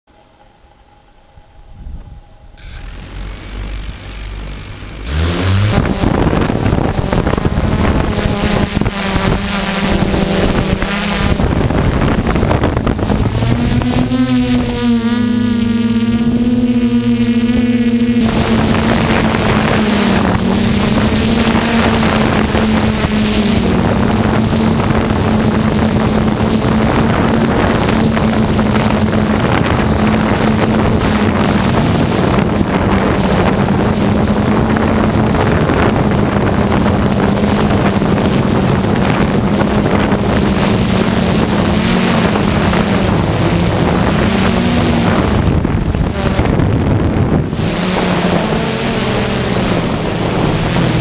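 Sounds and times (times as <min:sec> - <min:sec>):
drone motors buzzing: 0:02.6 - 0:51.0
wind rushing: 0:05.1 - 0:51.0.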